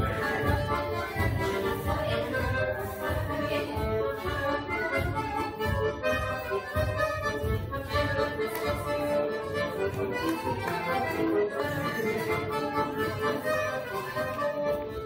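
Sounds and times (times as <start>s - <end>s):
lively folk dance music: 0.0s - 15.0s.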